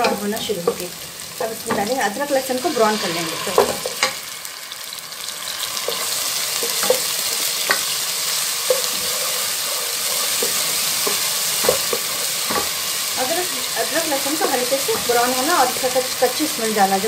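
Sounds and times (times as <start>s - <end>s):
wooden spoon scraping a pan: 0.0s - 4.3s, 5.2s - 16.4s
onions sizzling in hot oil: 0.0s - 17.0s.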